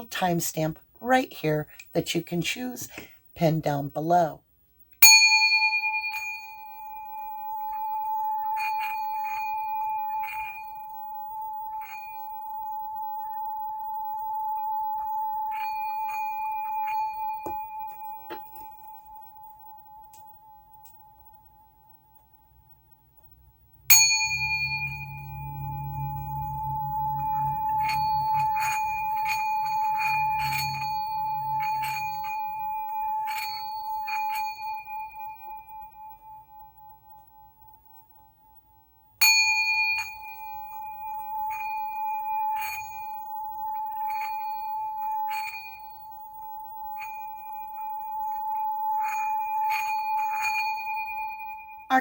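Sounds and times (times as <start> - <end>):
singing bowl struck: 5.0 - 21.8, 23.9 - 37.8, 39.2 - 52.0
singing bowl ringing tone: 5.0 - 52.0.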